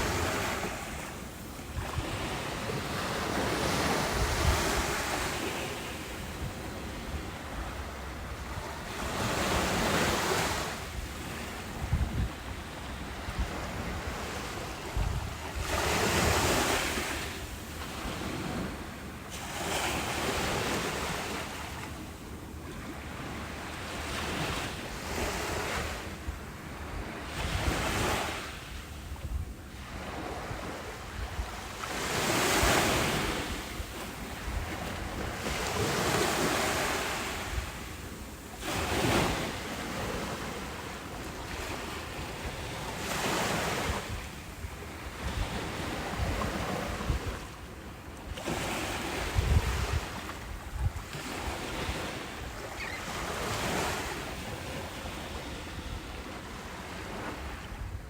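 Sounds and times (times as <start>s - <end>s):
wind rumbling on microphone: 0.0s - 18.9s, 24.2s - 47.6s, 48.2s - 58.0s
ocean waves breaking: 0.0s - 22.0s, 29.8s - 57.8s.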